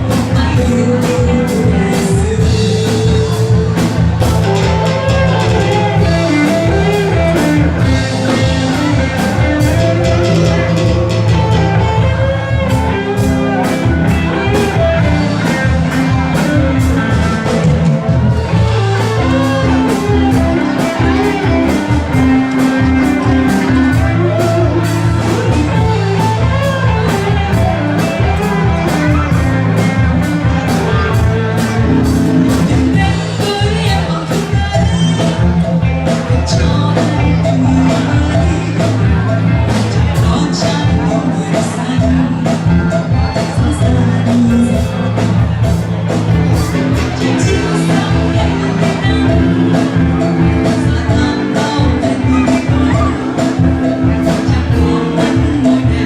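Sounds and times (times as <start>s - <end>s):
live band playing pop song: 0.0s - 56.0s
person singing: 0.0s - 56.0s.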